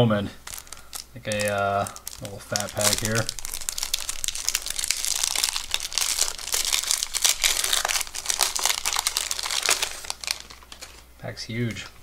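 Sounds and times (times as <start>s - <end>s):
paper wrapper tearing and crinkling: 0.4s - 11.1s.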